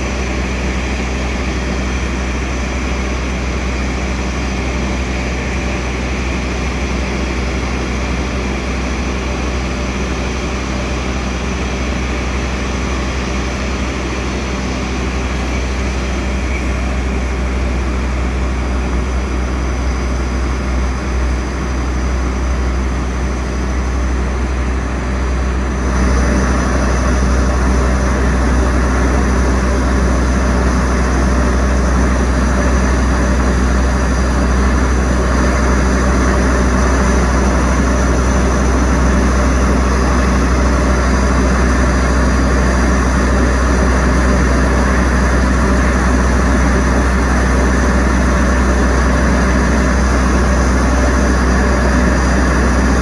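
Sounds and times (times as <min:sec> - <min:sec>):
diesel train engine drone: 0:00.0 - 0:53.0.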